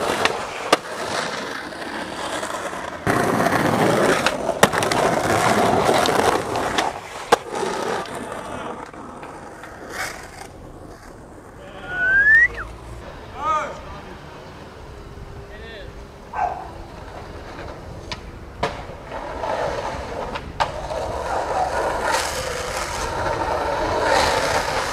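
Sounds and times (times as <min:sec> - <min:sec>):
skateboard clacking on ground: 0:00.0 - 0:12.4, 0:16.4 - 0:24.9
skateboard wheels rolling on concrete: 0:00.0 - 0:24.9.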